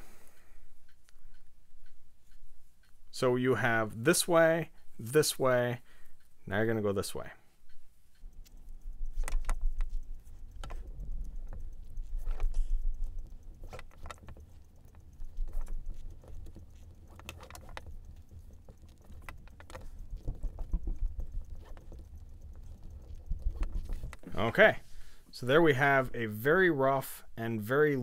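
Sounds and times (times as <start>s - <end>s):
light clicks and taps: 0.4s - 26.9s.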